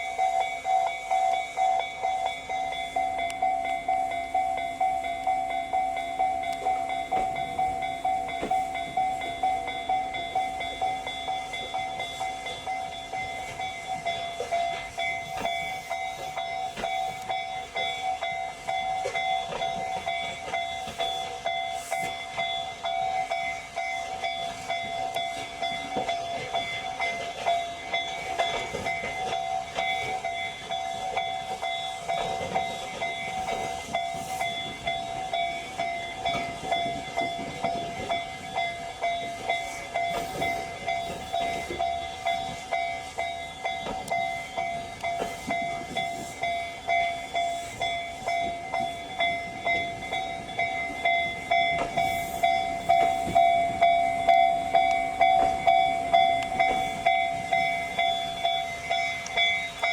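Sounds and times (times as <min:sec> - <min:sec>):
steady ringing tone: 0:00.0 - 0:59.9
train wheels clacking on rails: 0:00.0 - 0:59.9.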